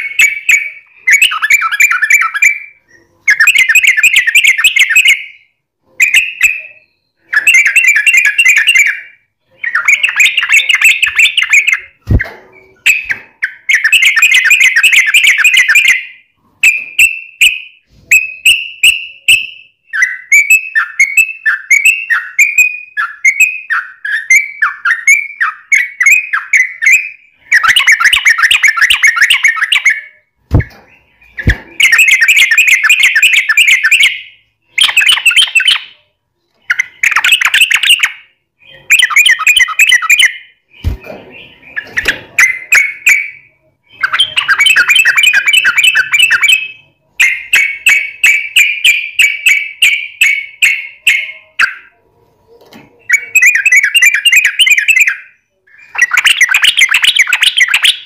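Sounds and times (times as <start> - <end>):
bird chattering song: 0.0 - 52.0, 52.9 - 58.0.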